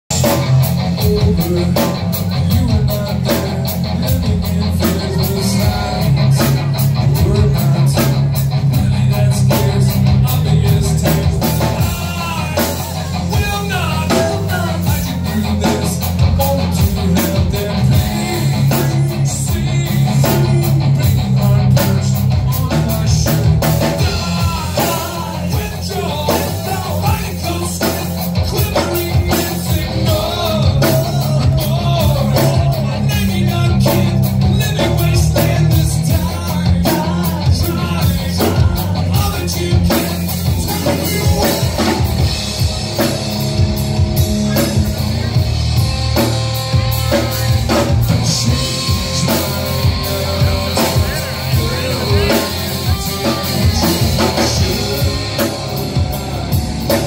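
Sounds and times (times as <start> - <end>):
rock band playing: 0.0 - 57.0
man singing: 0.1 - 57.0.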